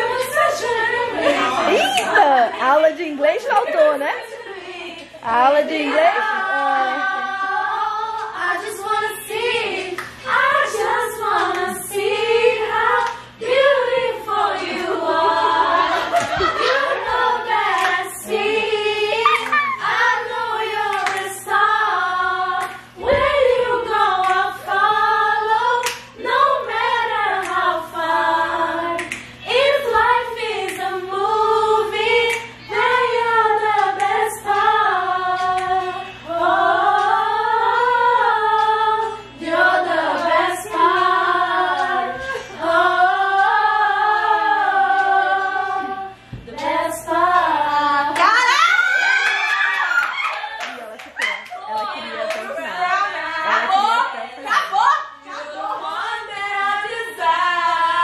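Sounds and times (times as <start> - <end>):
women singing a cappella: 0.0 - 58.0.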